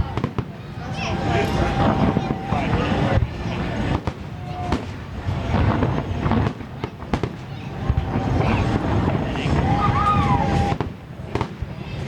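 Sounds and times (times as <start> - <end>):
fireworks sharp bangs: 0.0 - 12.0
low rumble of bursts: 0.0 - 12.0.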